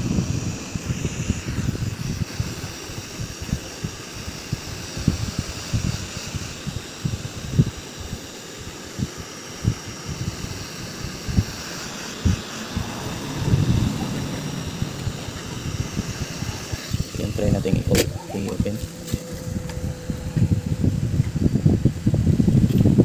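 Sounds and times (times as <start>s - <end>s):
heat gun fan whine and hiss: 0.0s - 23.0s
wind buffeting microphone: 0.0s - 23.0s.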